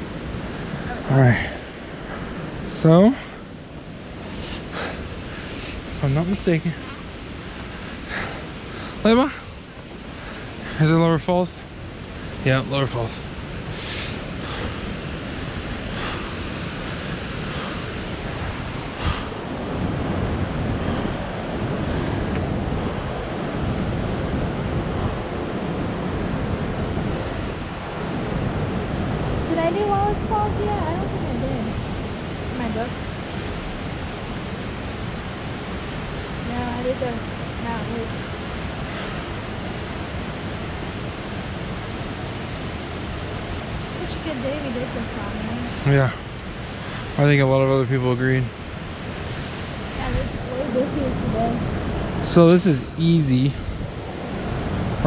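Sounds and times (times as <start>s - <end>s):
waterfall rushing: 4.2s - 55.0s.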